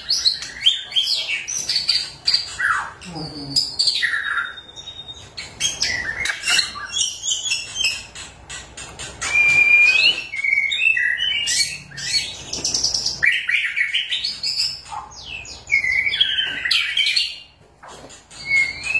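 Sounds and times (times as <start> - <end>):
songbird whistling and trilling: 0.0 - 3.0, 3.8 - 8.2, 9.2 - 17.5, 18.3 - 18.9.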